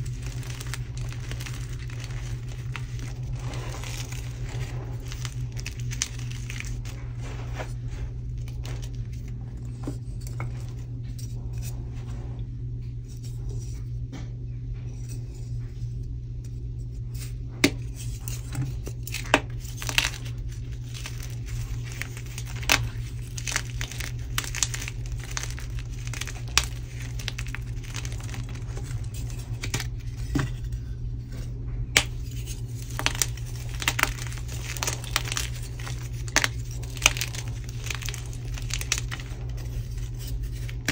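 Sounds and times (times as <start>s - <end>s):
hands crumbling chalk: 0.0s - 11.8s, 17.1s - 40.9s
low steady hum: 0.0s - 40.9s.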